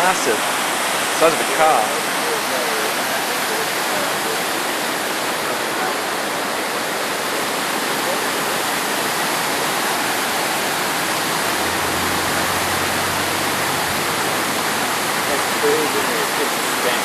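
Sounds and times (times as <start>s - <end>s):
fast-flowing water rushing: 0.0s - 17.0s.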